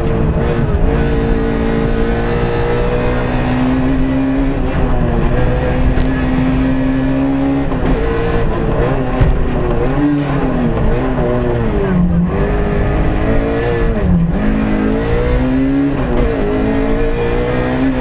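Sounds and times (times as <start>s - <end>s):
rally car engine pulling hard: 0.0s - 18.0s.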